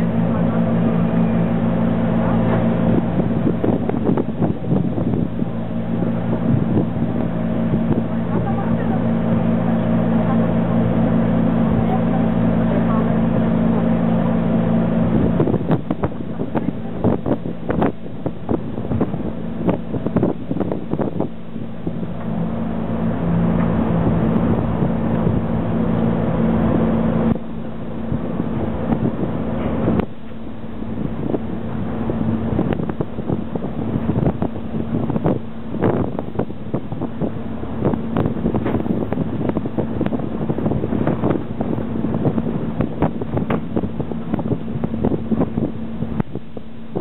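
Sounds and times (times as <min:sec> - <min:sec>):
ferry engine droning: 0:00.0 - 0:47.0
wind buffeting microphone: 0:00.0 - 0:47.0.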